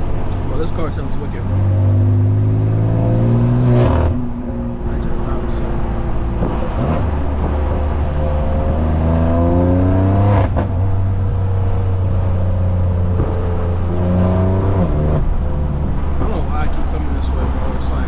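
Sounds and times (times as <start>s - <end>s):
car exhaust under acceleration: 0.0s - 18.0s.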